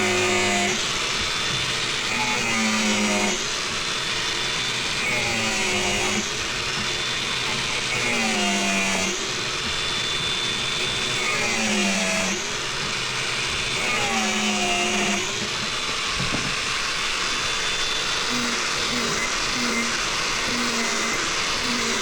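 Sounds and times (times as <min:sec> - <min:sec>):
power tool whirring: 0:00.0 - 0:22.0.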